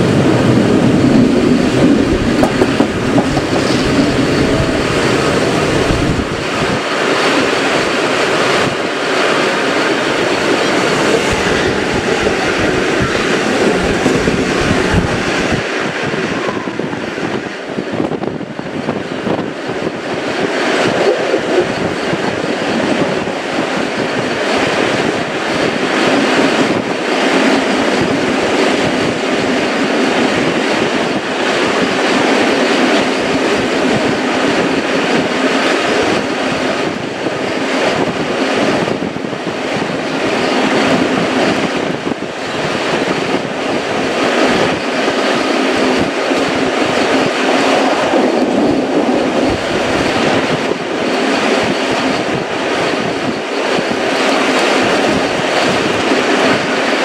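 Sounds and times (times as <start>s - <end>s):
train wheels on rails: 0.0s - 57.0s.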